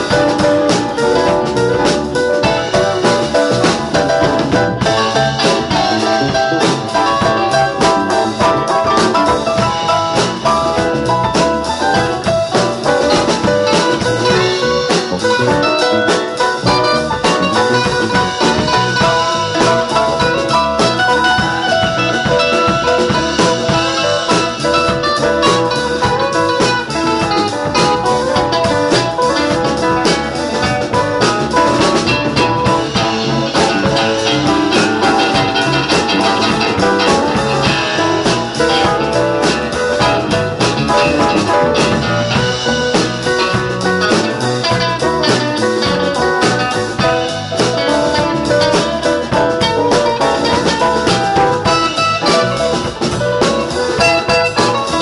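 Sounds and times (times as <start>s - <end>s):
electric guitars: 0.0s - 55.0s
live blues band playing: 0.0s - 55.0s.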